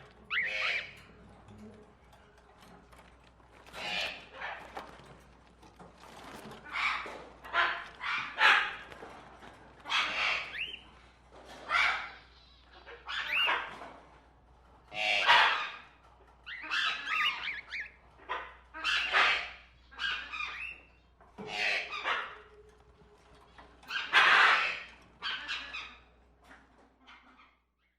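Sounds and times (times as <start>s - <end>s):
birds squawking: 0.0s - 1.7s, 2.6s - 14.1s, 14.8s - 26.4s.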